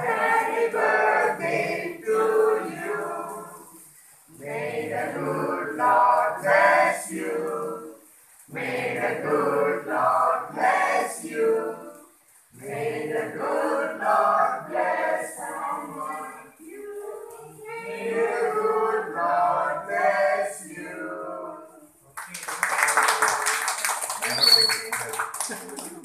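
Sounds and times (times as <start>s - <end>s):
group singing a celebration song: 0.0s - 22.0s.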